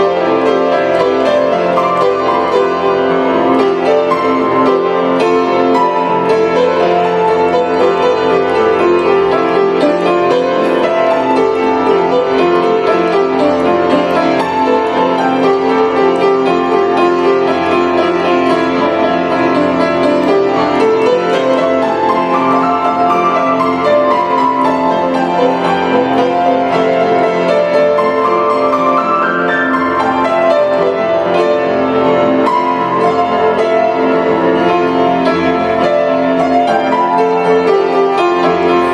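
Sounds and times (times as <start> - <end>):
grand piano playing: 0.0 - 38.9.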